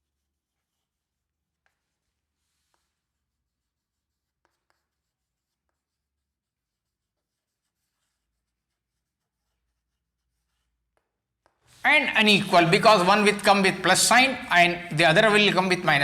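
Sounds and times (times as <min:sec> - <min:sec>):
pen scratching: 0:00.0 - 0:13.5.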